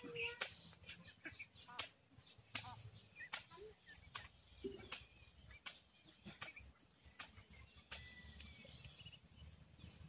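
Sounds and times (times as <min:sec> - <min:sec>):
distant birds chirping: 0:00.0 - 0:10.0.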